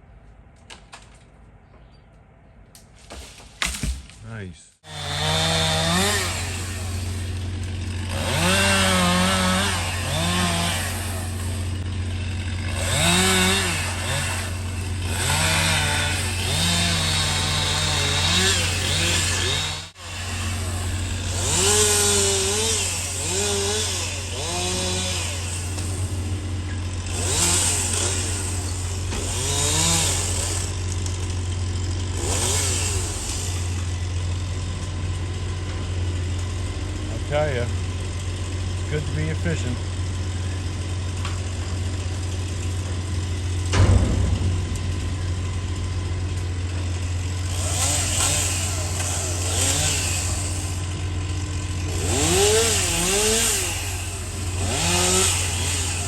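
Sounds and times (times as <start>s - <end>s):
chainsaw cutting wood: 4.8s - 56.0s.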